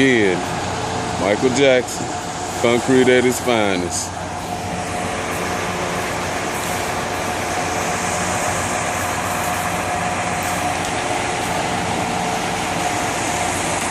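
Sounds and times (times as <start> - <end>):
concrete truck engine drone: 0.0 - 13.9
thin steady whine: 0.0 - 13.9.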